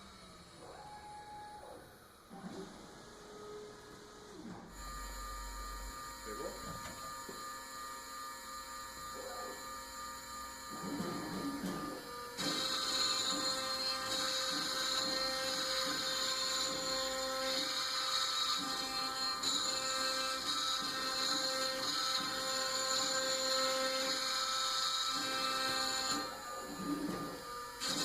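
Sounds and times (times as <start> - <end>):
router spindle whine: 0.0 - 28.0.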